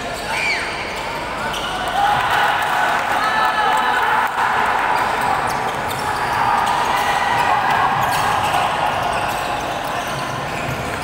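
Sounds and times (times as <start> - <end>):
echoing crowd din: 0.0 - 11.0.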